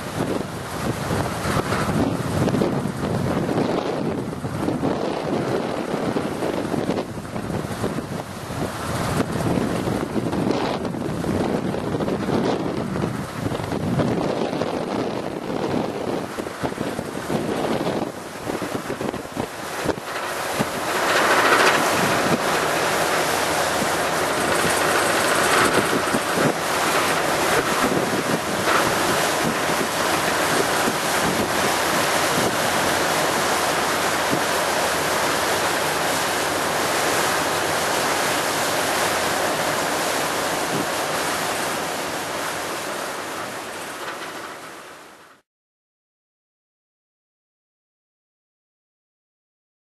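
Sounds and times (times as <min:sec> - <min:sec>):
wind buffeting microphone: 0:00.0 - 0:44.7
water washing: 0:00.0 - 0:45.3.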